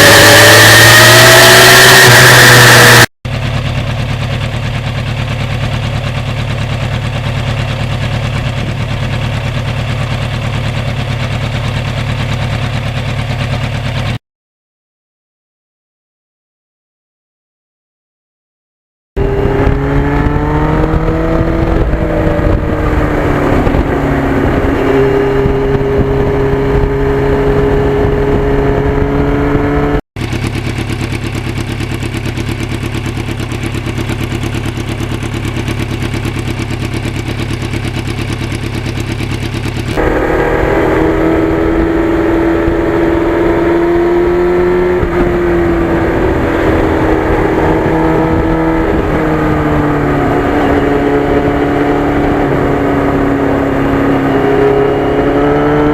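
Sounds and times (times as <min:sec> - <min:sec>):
motorcycle engine revving: 0:00.0 - 0:14.2, 0:19.2 - 0:55.9.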